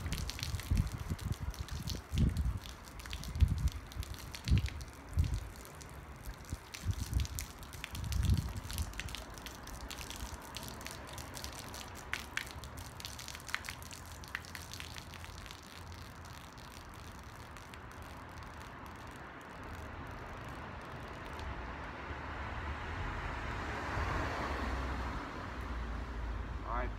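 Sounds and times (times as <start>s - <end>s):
liquid splashing onto pavers: 0.0s - 22.4s
low traffic hum: 0.0s - 26.9s.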